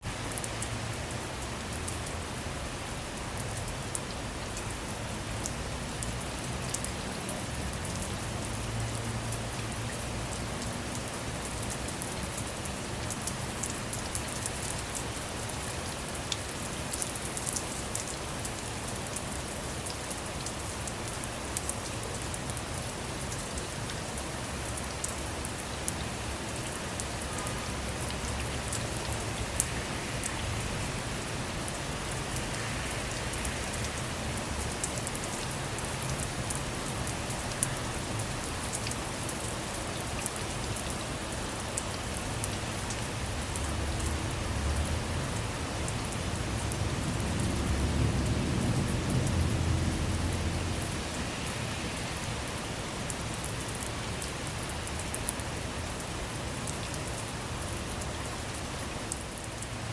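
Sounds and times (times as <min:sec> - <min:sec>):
rain hissing on a vehicle: 0:00.0 - 0:59.9.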